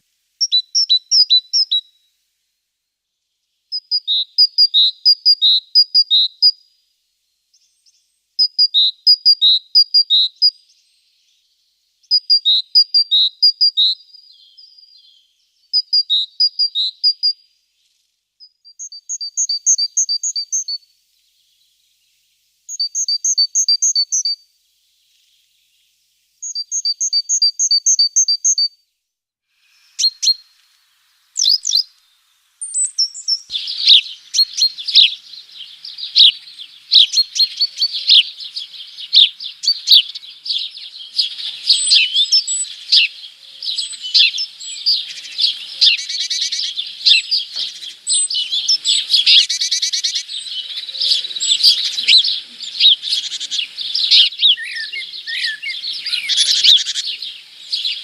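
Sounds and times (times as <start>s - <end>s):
songbird singing: 0.0s - 2.2s, 2.9s - 29.0s, 29.6s - 58.0s.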